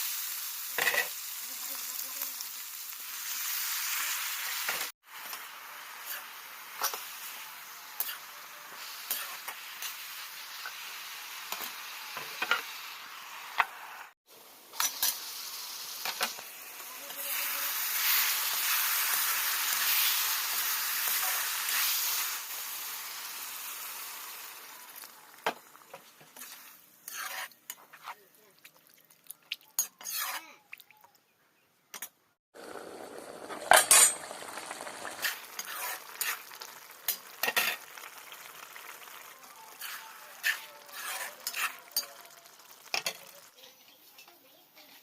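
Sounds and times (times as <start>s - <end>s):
food sizzling in frying pan: 0.0s - 28.2s, 32.5s - 45.0s.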